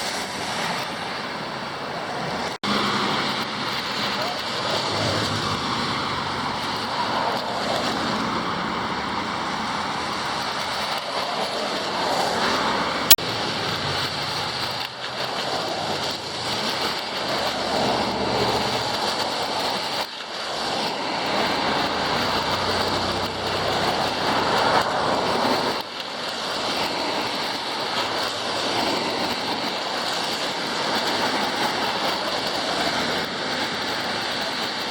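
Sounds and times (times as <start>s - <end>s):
tyres hissing on wet road: 0.0s - 34.9s.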